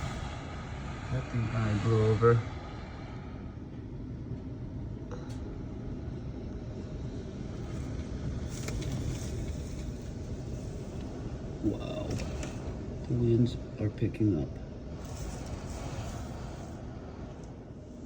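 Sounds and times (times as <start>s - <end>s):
strong storm wind gusting: 0.0s - 18.0s.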